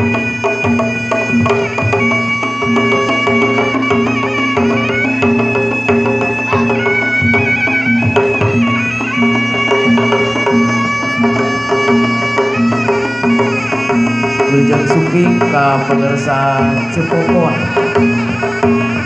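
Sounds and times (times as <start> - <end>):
hand drum strokes: 0.0 - 19.0
shrill reed shawm melody: 0.0 - 19.0.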